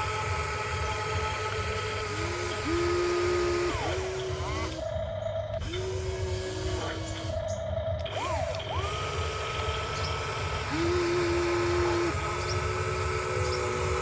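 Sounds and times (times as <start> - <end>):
lower-pitched motor: 0.0 - 14.0
small electric motors whining: 0.0 - 14.0.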